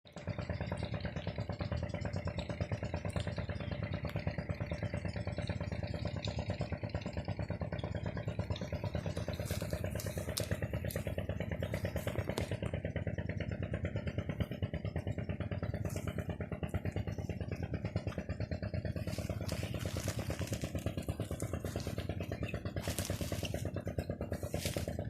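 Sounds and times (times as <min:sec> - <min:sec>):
engine running with fast pulse: 0:00.1 - 0:25.0.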